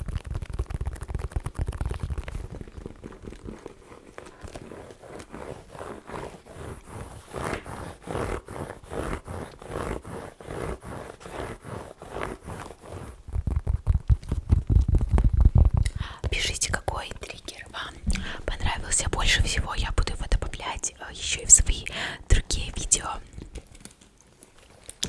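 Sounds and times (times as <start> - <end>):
fast scratching on object: 0.0 - 23.8.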